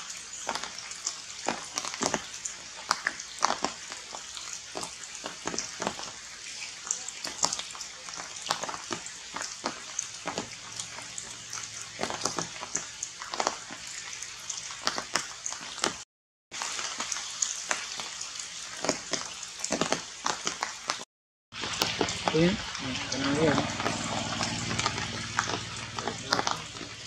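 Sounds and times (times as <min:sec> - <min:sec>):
rain hiss: 0:00.0 - 0:15.9, 0:16.6 - 0:21.0, 0:21.6 - 0:27.0
water drops ticking on leaves: 0:00.0 - 0:16.0, 0:16.6 - 0:27.0.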